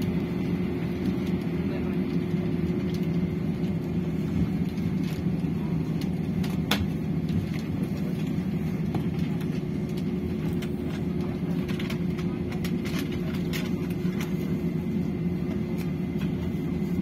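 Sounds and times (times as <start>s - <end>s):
aircraft cabin engine rumble: 0.0s - 17.0s.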